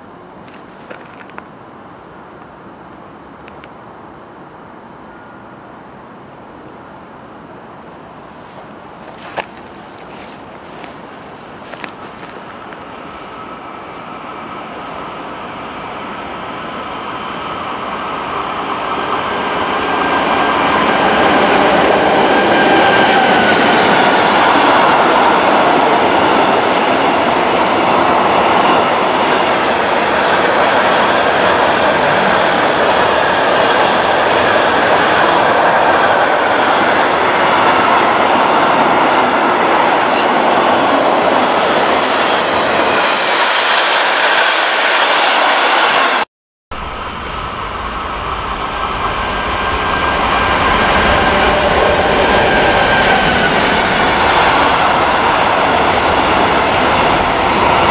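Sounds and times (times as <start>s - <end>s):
freight train passing: 0.0s - 57.9s.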